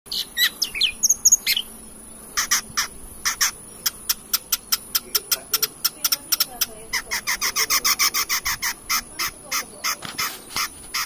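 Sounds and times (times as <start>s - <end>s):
bird singing with varied chirps: 0.1s - 11.0s.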